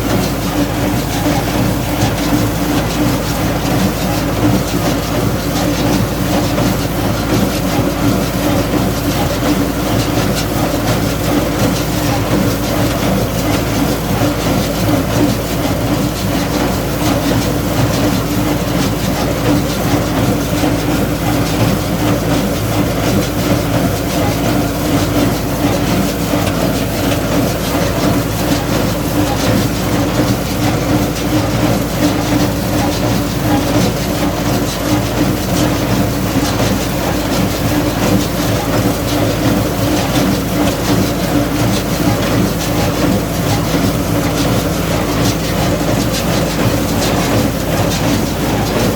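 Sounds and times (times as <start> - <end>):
baler mechanical rattle: 0.0 - 48.9
tractor engine running: 0.0 - 48.9.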